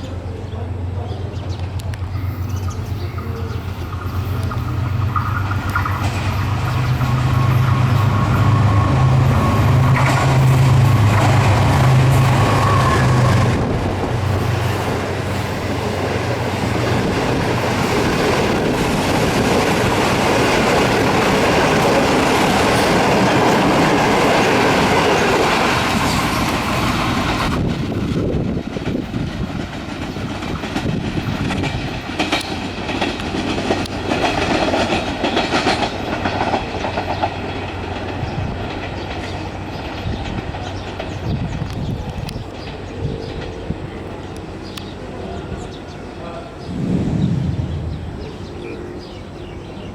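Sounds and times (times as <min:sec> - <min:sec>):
wheels clacking over rail joints: 0:00.0 - 0:46.0
train passing at speed: 0:00.0 - 0:49.9.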